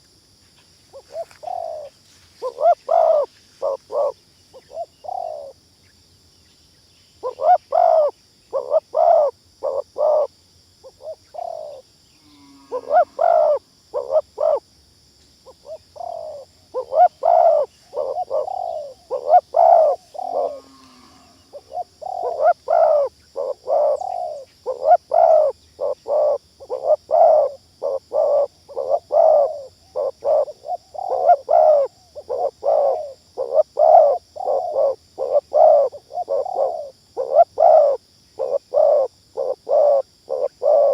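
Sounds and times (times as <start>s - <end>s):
faint high hiss: 0.0s - 40.9s
doves cooing: 0.9s - 5.6s, 7.2s - 14.6s, 15.5s - 40.9s.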